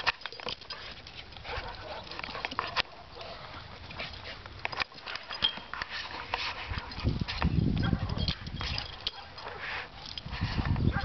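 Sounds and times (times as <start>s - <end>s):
rustling on dry grass: 0.0s - 11.0s.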